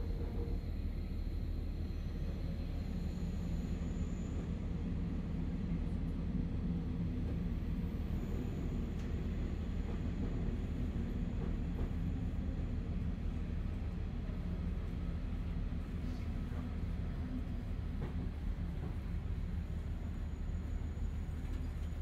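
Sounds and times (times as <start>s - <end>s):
diesel railcar engine drone: 0.0s - 22.0s.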